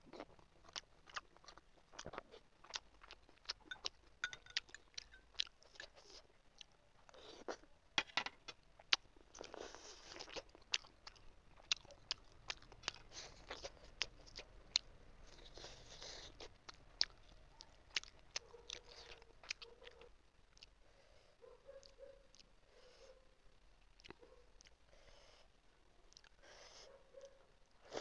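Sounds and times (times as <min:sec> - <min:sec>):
soft wet chewing: 0:00.0 - 0:07.8, 0:08.4 - 0:28.0.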